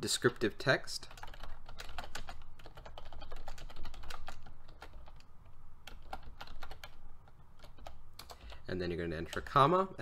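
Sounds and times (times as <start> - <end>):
typing on computer keyboard: 0.2 - 9.7.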